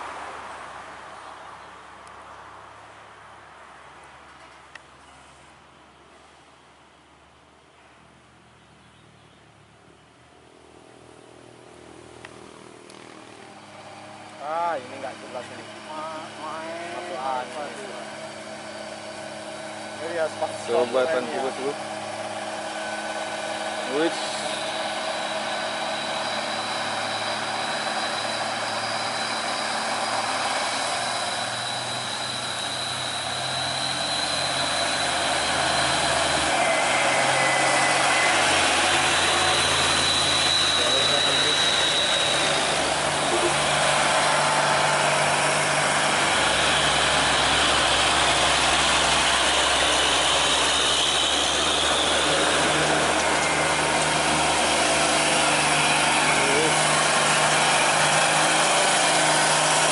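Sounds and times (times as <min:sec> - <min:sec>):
heavy truck diesel engines: 0:00.0 - 0:59.9.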